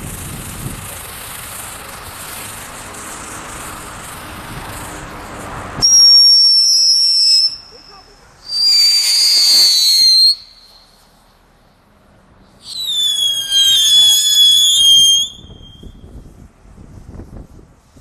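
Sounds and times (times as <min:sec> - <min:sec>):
ground firework whistling: 0:00.0 - 0:16.4.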